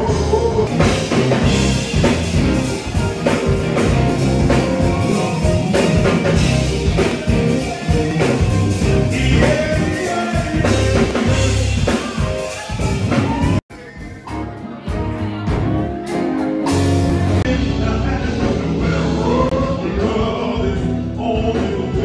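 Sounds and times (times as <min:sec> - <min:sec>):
drums keeping a beat: 0:00.0 - 0:22.0
keyboard: 0:00.0 - 0:22.0
person singing: 0:00.0 - 0:22.0.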